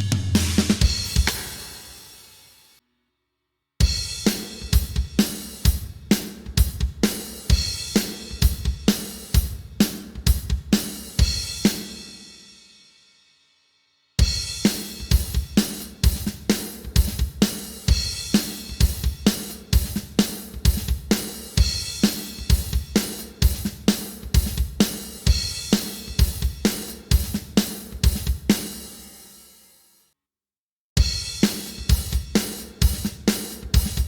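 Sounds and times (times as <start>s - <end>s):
drum kit playing a groove: 0.0s - 2.5s, 3.8s - 12.4s, 14.2s - 29.6s, 31.0s - 34.0s.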